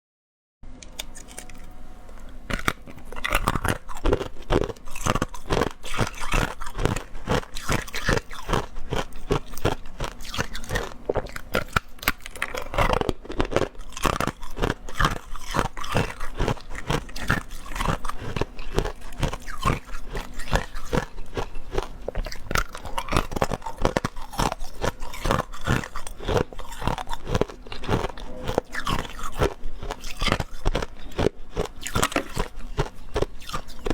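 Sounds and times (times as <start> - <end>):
ice crunching while chewed: 0.9 - 33.9.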